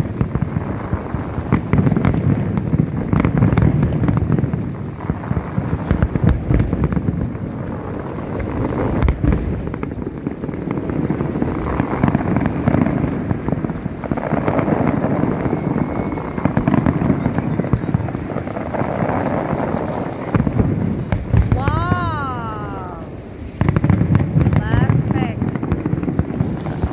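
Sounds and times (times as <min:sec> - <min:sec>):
sharp firework bang: 0:00.0 - 0:22.8, 0:23.5 - 0:26.9
firework shell bursts and crackle: 0:00.0 - 0:26.9.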